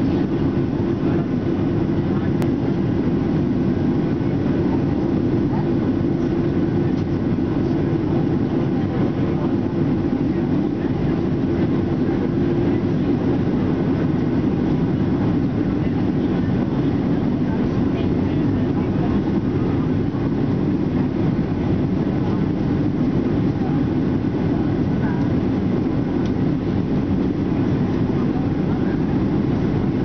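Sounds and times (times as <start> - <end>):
airflow over fuselage: 0.0 - 30.0
airplane cabin engine roar: 0.0 - 30.0.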